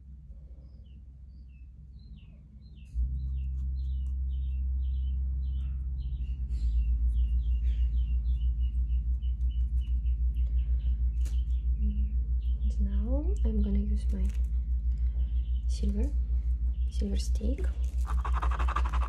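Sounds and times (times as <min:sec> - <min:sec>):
low rumble turning into throb: 0:00.0 - 0:19.0
bird chirping: 0:00.4 - 0:19.0.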